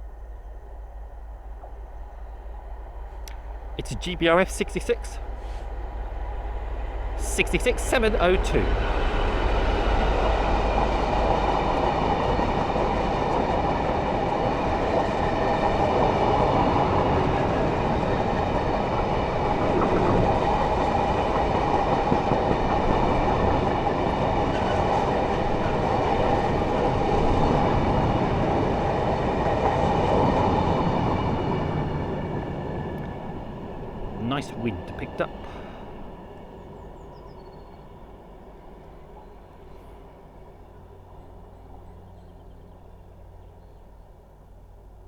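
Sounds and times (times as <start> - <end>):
freight train passing: 0.0 - 45.0.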